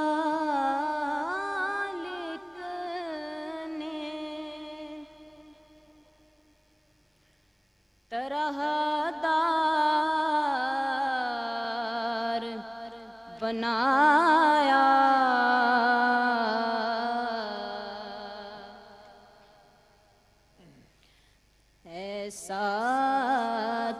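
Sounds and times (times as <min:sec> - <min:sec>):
woman singing unaccompanied: 0:00.0 - 0:06.4, 0:08.1 - 0:19.8, 0:21.8 - 0:23.9.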